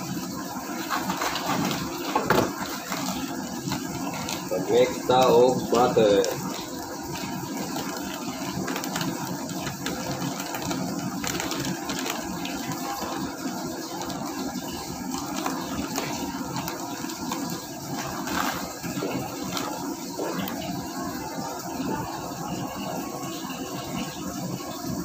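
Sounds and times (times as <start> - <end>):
kitchen equipment rushing: 0.7 - 21.0.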